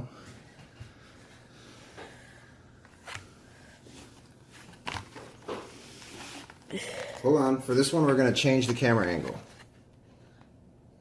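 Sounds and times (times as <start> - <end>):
faint handling rustles and scrapes: 0.7 - 10.5.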